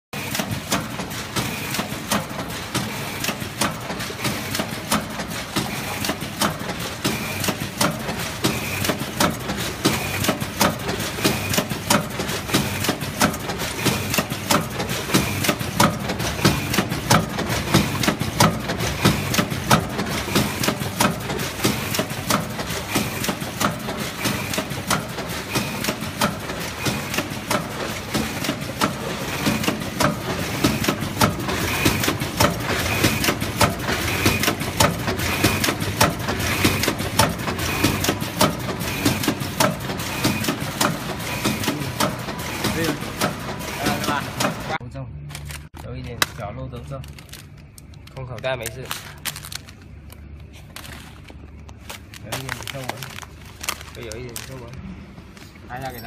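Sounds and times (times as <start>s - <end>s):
sharp mechanical clicks and knocks: 0.2s - 49.7s
packing machine humming: 0.2s - 56.0s.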